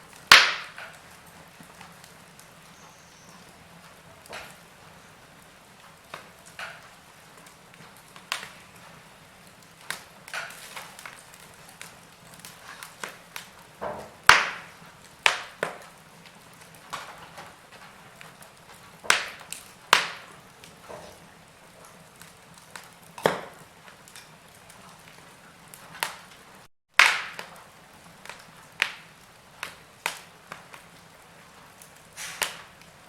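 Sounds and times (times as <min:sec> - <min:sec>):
burning logs popping: 0:00.0 - 0:33.0
wood fire crackling: 0:00.0 - 0:33.0.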